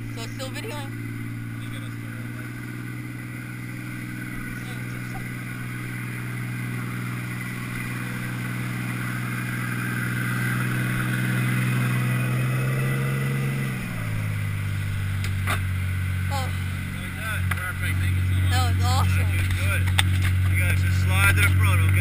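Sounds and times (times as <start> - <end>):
motorboat engine running: 0.0 - 22.0
wind: 0.0 - 22.0.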